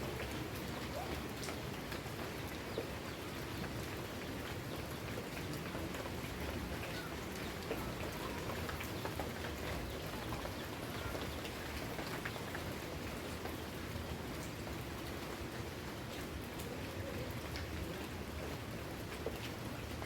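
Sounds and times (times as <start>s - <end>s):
raindrops ticking on surface: 0.0s - 20.0s
steady rain hiss: 0.0s - 20.0s.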